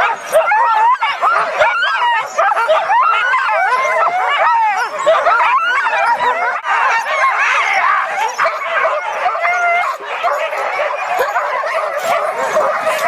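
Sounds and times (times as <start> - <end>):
dogs yelping and whining: 0.0 - 13.0.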